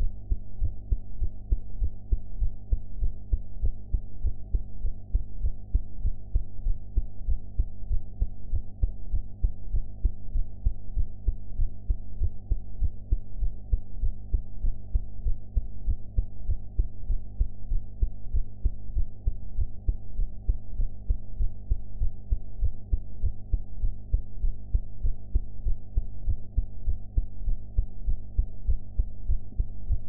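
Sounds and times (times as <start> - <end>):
heartbeat thumps: 0.0 - 30.0
low hum: 0.0 - 30.0.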